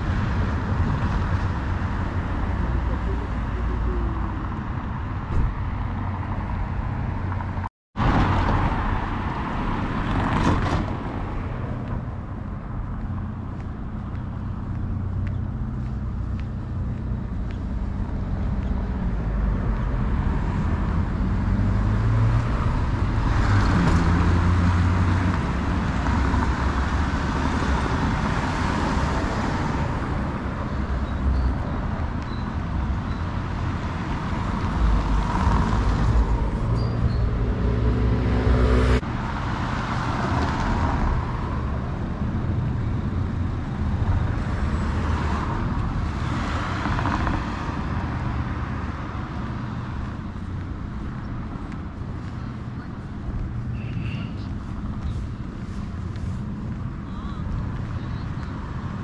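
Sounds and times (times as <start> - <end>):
cars driving past: 0.0 - 59.0.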